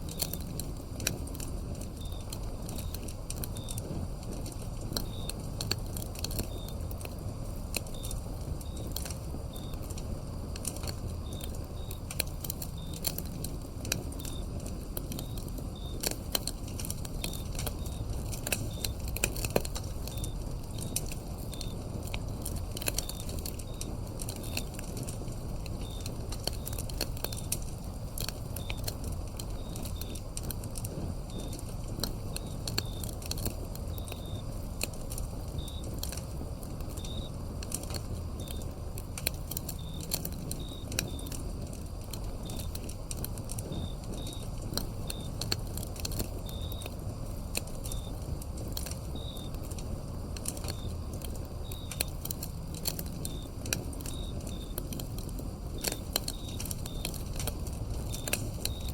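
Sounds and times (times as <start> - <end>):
cricket chirping: 0.0 - 58.9
wood fire crackling and popping: 0.0 - 58.9.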